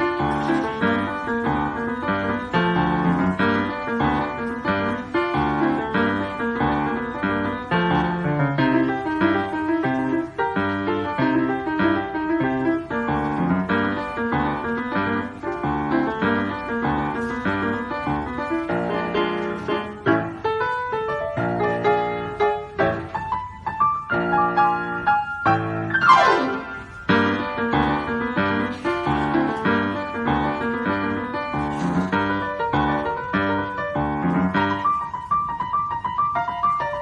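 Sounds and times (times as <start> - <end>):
blues piano: 0.0 - 37.0.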